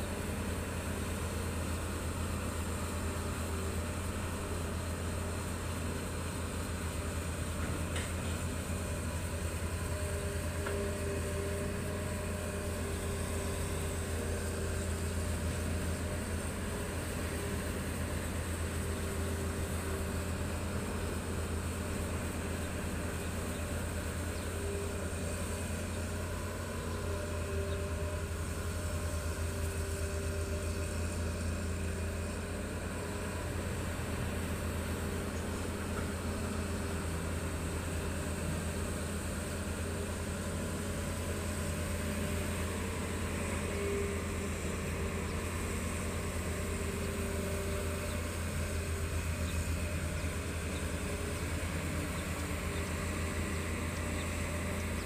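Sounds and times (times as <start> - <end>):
excavator diesel engine droning: 0.0 - 55.0.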